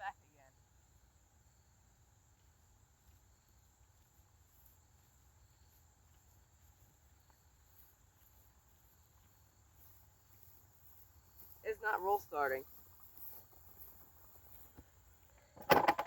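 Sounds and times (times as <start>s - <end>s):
high-pitched insect chirping: 0.0s - 15.6s.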